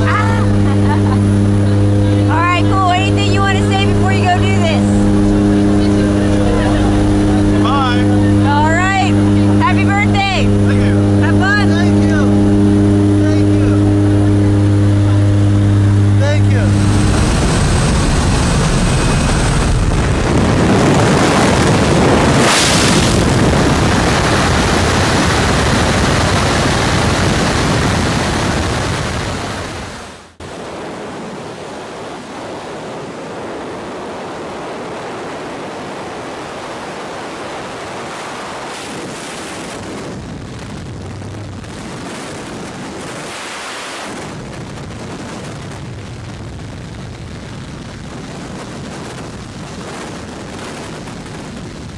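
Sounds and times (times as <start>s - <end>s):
soft steady wind rush: 0.0s - 51.9s
strong wind rushing over microphone: 0.0s - 51.9s.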